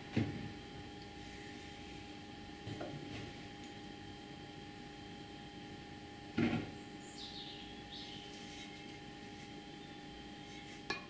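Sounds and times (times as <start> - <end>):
faint hum and hiss: 0.0 - 11.0.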